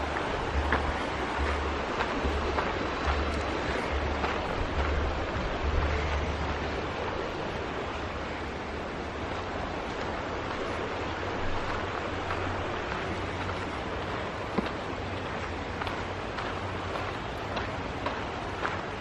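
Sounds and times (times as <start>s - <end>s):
creek water rushing: 0.0s - 19.0s
wind rumble on microphone: 0.0s - 19.0s.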